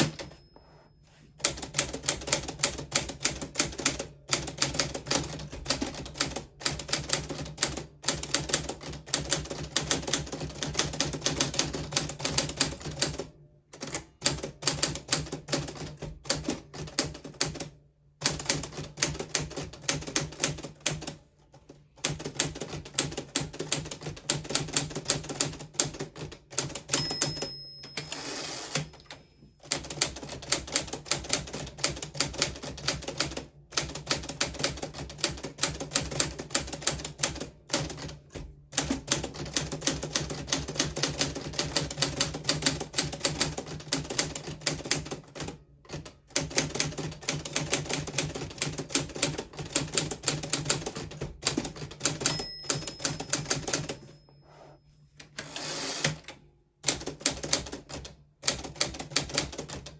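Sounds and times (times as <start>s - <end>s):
manual typewriter typing: 1.4s - 54.1s, 55.2s - 59.9s.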